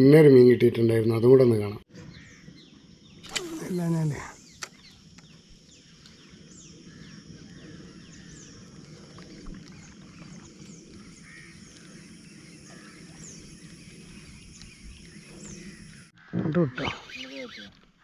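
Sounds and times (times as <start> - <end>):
faint bird chirps: 2.0 - 18.0.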